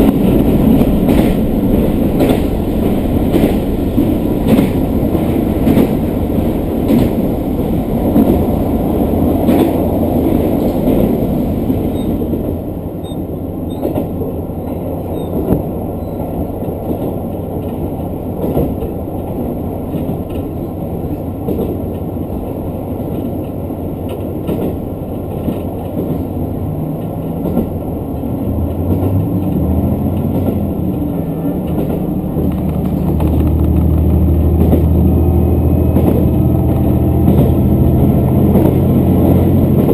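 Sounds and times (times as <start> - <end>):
train engine rising: 0.0 - 39.9
train wheels rumbling on rail: 0.0 - 39.9.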